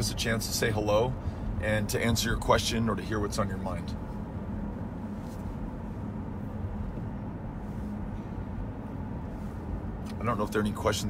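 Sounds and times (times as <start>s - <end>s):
car cabin road drone: 0.0s - 11.0s.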